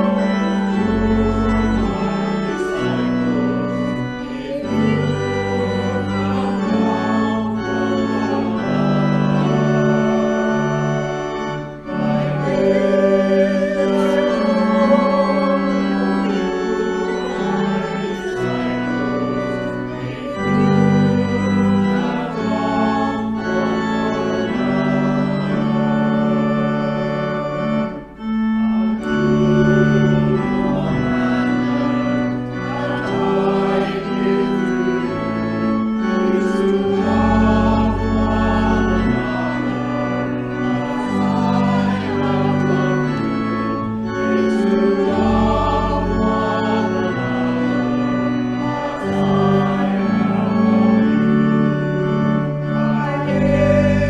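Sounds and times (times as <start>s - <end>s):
choir singing: 0.0s - 54.0s
church organ chords: 0.0s - 54.0s.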